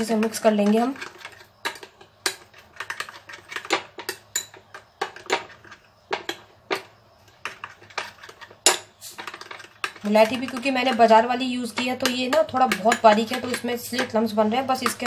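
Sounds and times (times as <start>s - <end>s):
spoon clinking in glass bowl: 0.6s - 5.5s, 7.4s - 15.0s.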